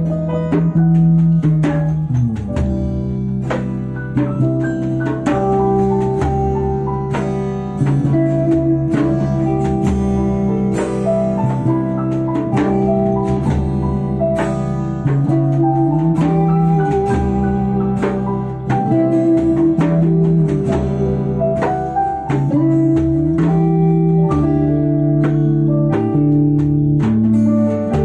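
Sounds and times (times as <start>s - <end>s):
guitar: 0.0s - 28.0s
percussion: 0.0s - 28.0s.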